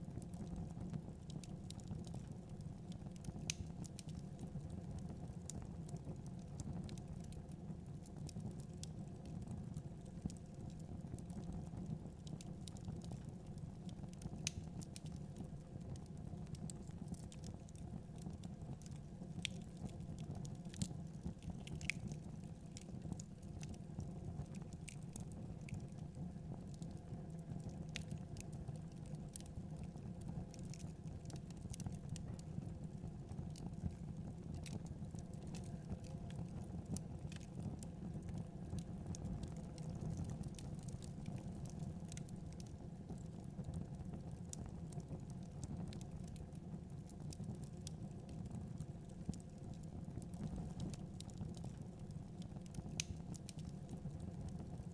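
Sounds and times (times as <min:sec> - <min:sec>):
fireplace crackling: 0:00.2 - 0:07.5, 0:14.1 - 0:54.7.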